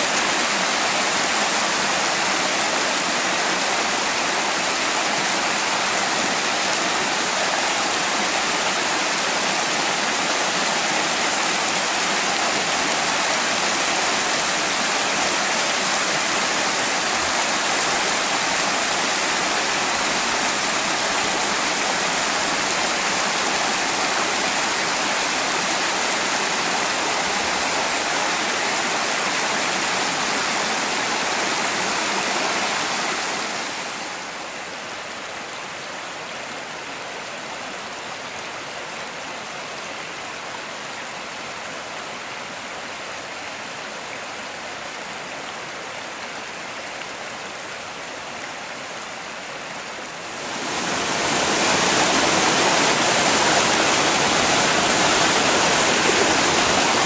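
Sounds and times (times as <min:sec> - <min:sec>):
creek rushing over stones: 0:00.0 - 0:57.0.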